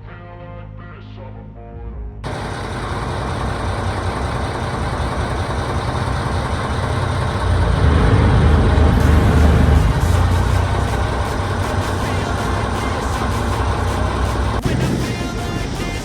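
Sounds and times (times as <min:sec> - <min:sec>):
engine running: 0:02.2 - 0:16.0
rushing noise: 0:02.3 - 0:16.0.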